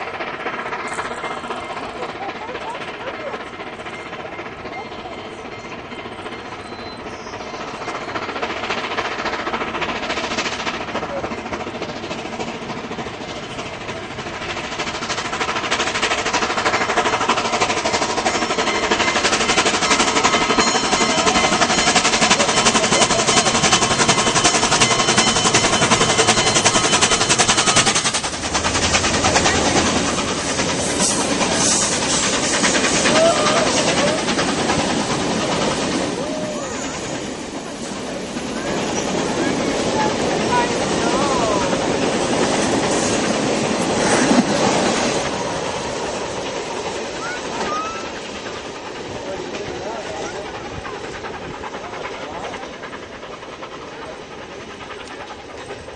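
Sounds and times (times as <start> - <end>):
steam locomotive chuffing: 0.0 - 55.9.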